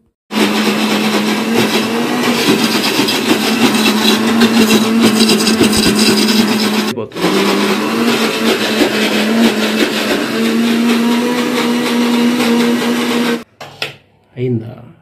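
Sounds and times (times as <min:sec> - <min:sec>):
mixer grinder motor whine: 0:00.3 - 0:13.4.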